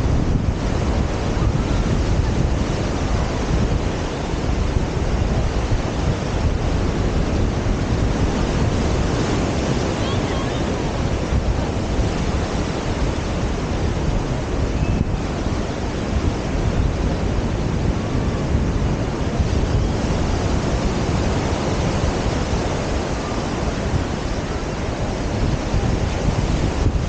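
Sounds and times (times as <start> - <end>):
ocean surf washing onto beach: 0.0 - 27.0
wind buffeting microphone: 0.0 - 27.0.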